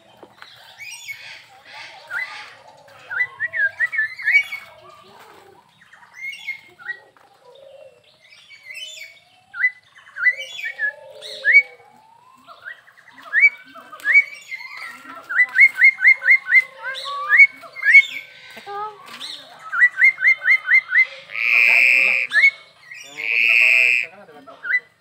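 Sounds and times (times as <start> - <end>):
myna bird singing: 0.0 - 25.0.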